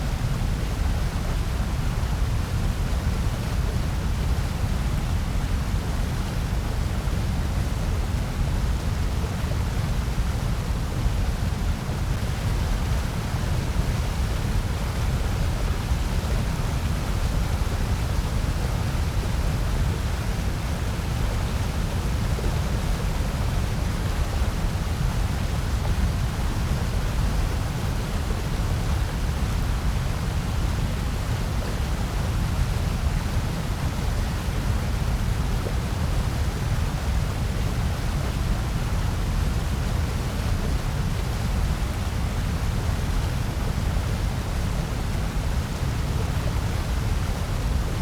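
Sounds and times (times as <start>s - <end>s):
white noise: 0.0s - 48.0s.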